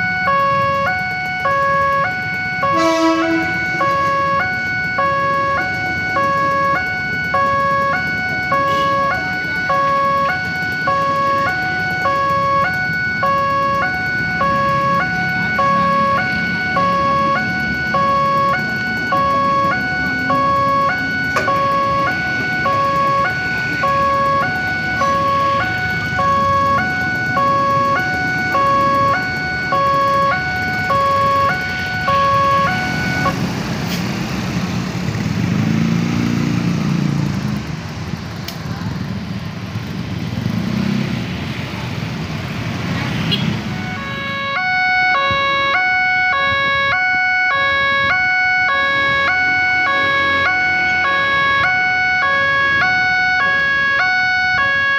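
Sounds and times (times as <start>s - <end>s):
two-tone crossing alarm siren: 0.0s - 34.1s, 42.4s - 54.9s.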